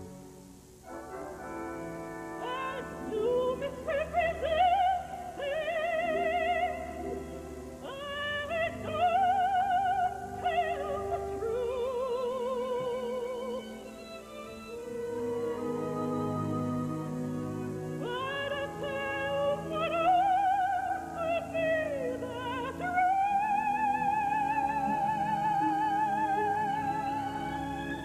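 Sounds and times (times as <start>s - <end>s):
operatic soprano singing: 2.2s - 28.0s.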